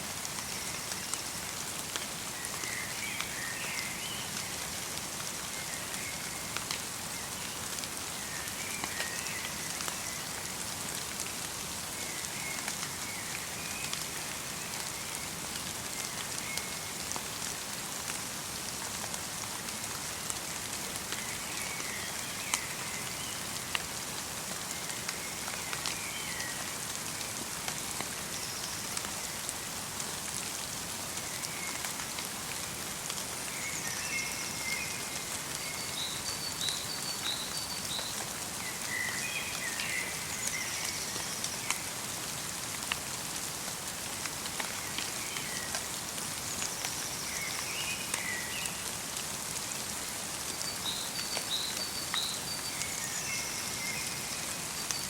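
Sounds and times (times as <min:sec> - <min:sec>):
light rain and snow pattering: 0:00.0 - 0:55.0.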